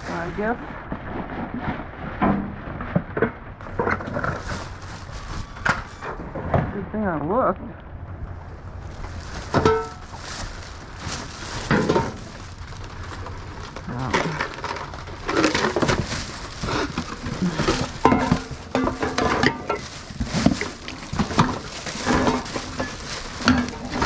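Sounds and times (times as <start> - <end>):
hard objects clattering in trash: 0.0 - 6.8, 8.8 - 24.0.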